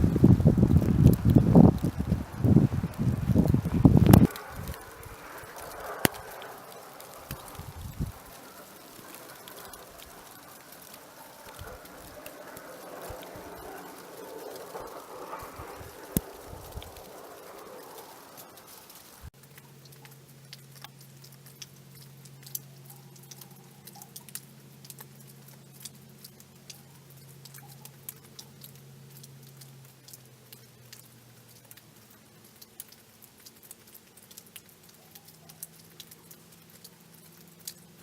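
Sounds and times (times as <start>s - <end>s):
snow ticking against surfaces: 0.0s - 38.0s.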